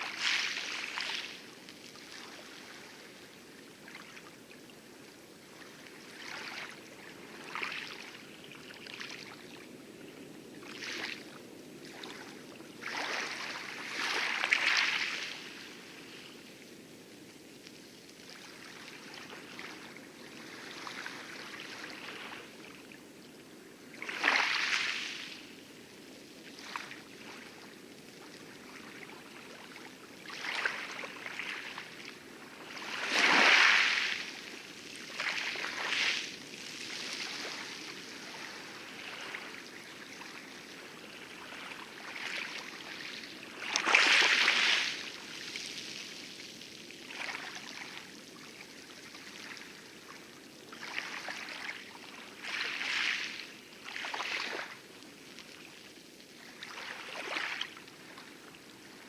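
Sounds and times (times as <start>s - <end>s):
small waves lapping on coral: 0.0s - 59.0s.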